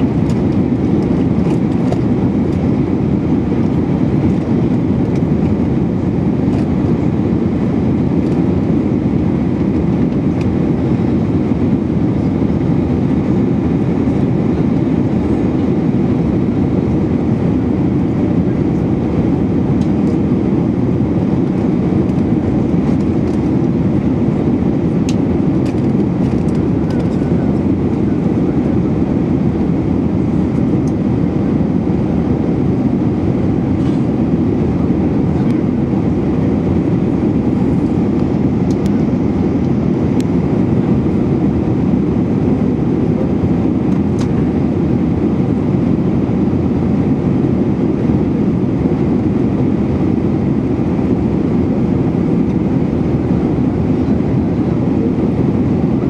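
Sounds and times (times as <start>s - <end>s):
jet engines roaring in cabin: 0.0s - 56.0s.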